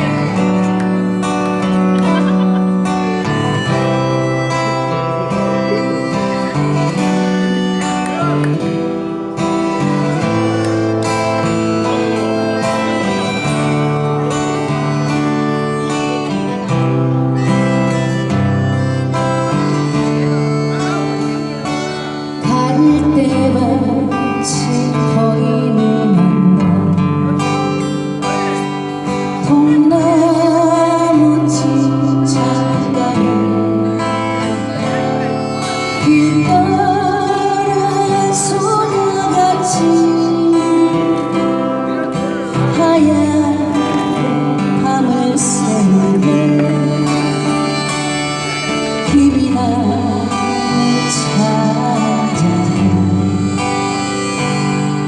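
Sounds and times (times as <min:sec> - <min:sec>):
acoustic folk music with guitar: 0:00.0 - 0:55.0.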